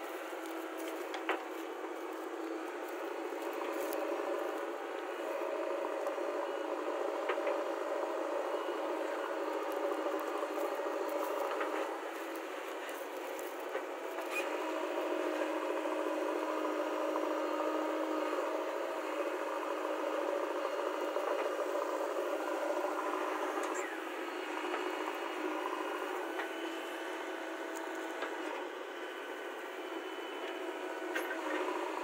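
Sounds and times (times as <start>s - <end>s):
backhoe diesel engine running: 0.0s - 32.0s.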